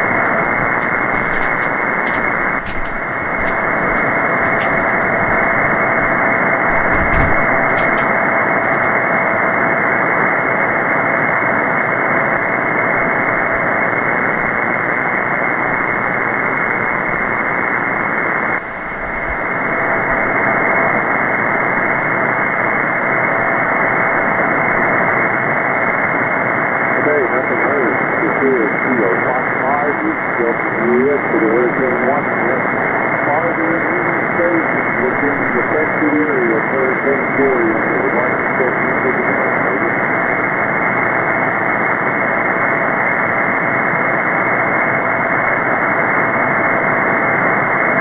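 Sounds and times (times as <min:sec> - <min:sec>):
radio static hiss: 0:00.0 - 0:48.0.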